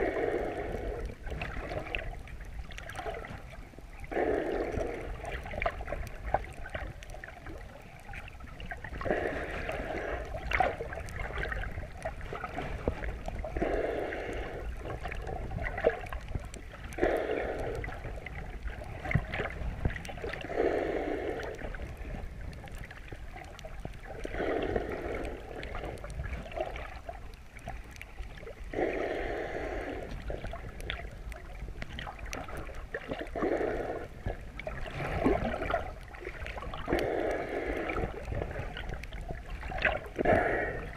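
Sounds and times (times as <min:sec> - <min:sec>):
low rumble of moving water: 0:00.0 - 0:40.9
muffled snorkel breathing: 0:00.0 - 0:40.9.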